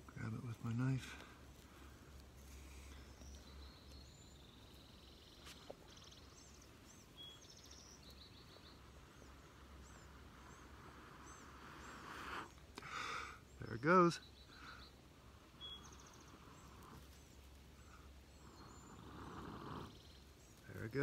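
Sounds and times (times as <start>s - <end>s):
faint small birds chirping: 0.0s - 21.0s.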